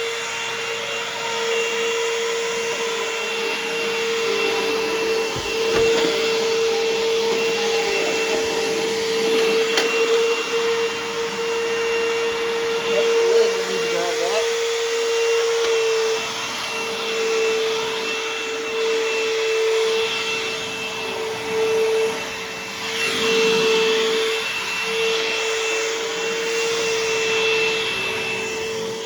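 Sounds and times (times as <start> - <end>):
upright vacuum cleaner running: 0.0 - 29.0.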